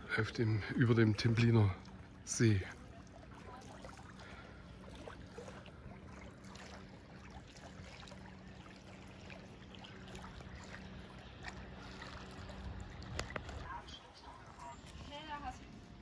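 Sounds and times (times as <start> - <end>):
small waves lapping: 0.0 - 16.0.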